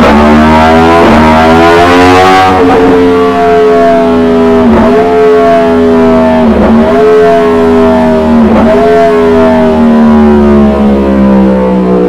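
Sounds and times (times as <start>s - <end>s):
motorcycle engine on dyno: 0.0s - 12.0s.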